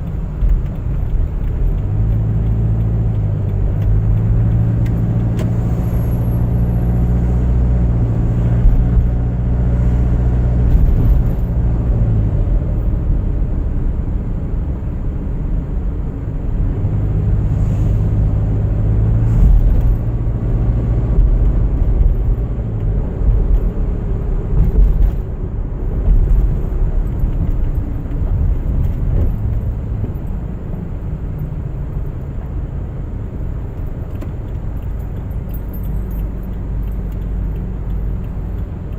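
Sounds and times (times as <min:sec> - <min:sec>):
engine hum: 0:00.0 - 0:38.9.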